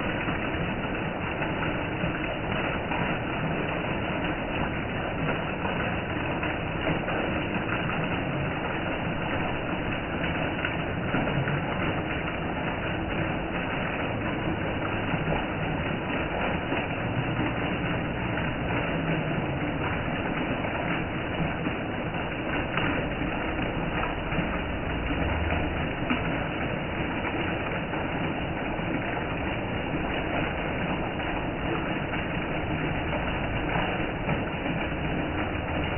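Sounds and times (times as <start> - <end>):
heavy rain on trees and paving: 0.0 - 35.9.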